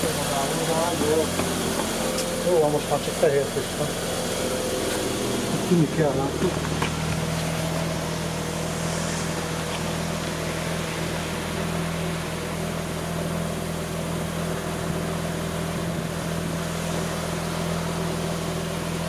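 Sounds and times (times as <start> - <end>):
rotary engine idling: 0.0 - 19.0.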